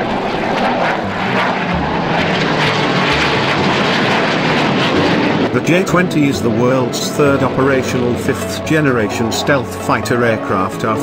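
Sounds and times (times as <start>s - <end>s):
jet noise rushing: 0.0s - 11.0s.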